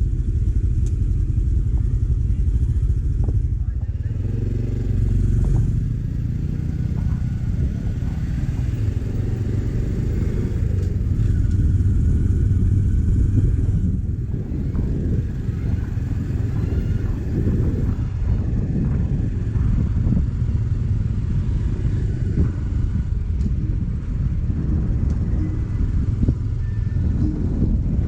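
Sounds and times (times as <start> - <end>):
motorcycle engine rumble: 0.0 - 28.0.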